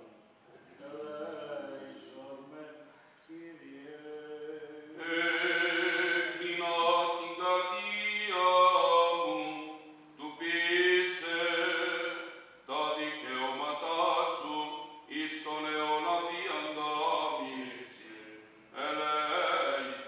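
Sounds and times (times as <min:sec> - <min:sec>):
man chanting: 0:00.8 - 0:20.0.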